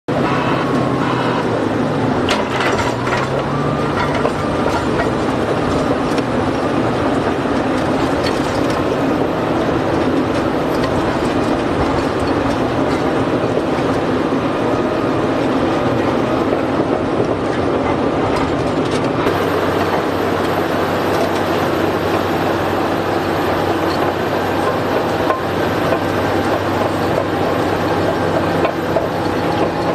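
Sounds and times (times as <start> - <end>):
heavy diesel drone: 0.1 - 29.9.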